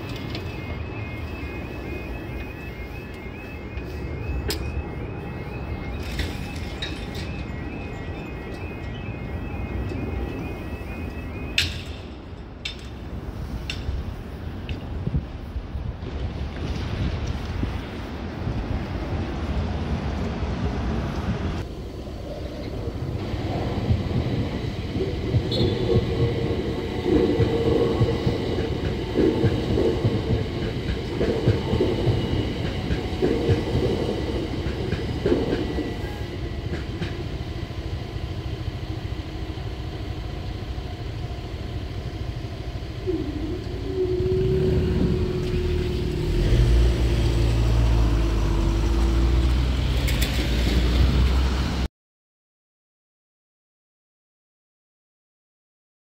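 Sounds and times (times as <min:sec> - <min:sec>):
electric train wheels clattering: 0:00.0 - 0:15.4, 0:20.1 - 0:51.9.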